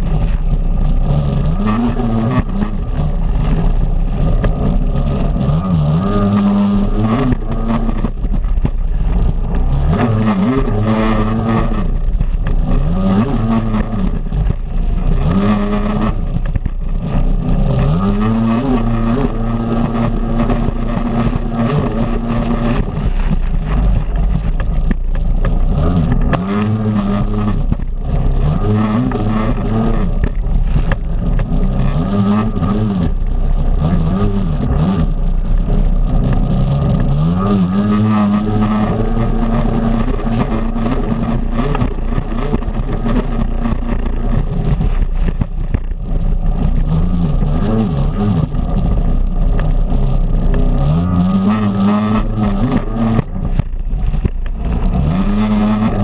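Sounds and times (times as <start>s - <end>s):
jet ski engine revving: 0.0s - 56.0s.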